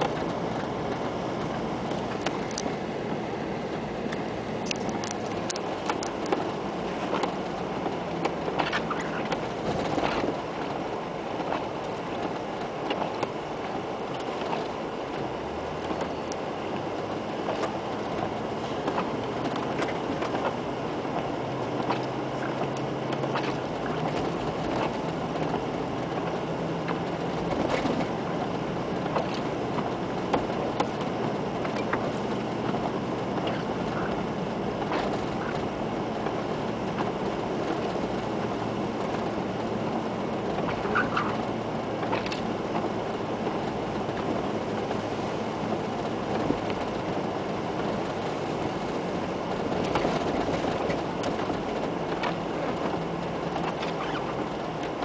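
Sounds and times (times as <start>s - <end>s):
engine and drivetrain rumble: 0.0s - 55.0s.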